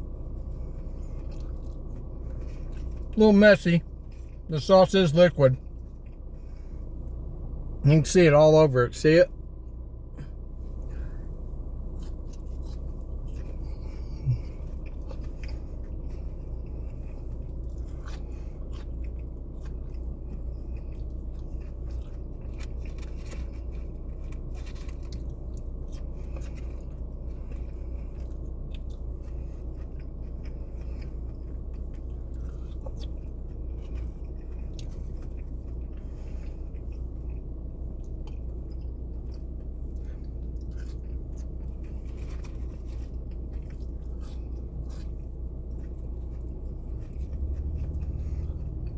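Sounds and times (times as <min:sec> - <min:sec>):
person chewing food: 0:00.0 - 0:04.5, 0:05.6 - 0:07.8, 0:09.5 - 0:48.9
steady low hum: 0:00.0 - 0:48.9.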